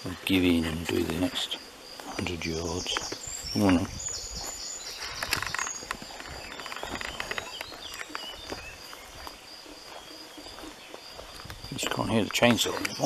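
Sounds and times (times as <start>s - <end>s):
birds chirping and singing: 0.0s - 13.0s
footsteps crunching on grass: 0.0s - 13.0s.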